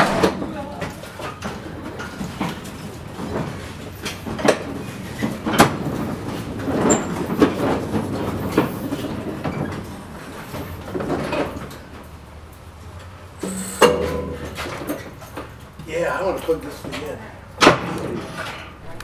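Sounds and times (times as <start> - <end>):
metal wheels clanking on rail: 0.0 - 19.0.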